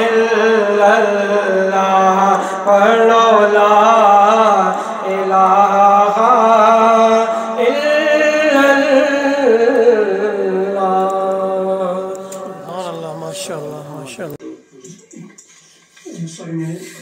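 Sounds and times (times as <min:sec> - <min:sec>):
man singing: 0:00.0 - 0:14.4.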